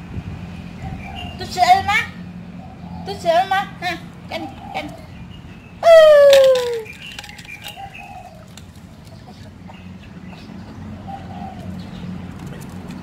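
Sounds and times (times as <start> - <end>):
birds calling softly: 0.5 - 13.0.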